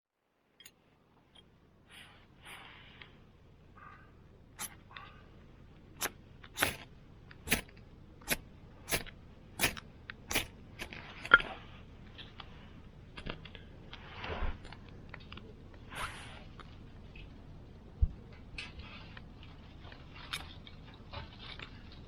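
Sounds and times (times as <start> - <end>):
rustling: 1.9 - 17.4, 18.2 - 22.0.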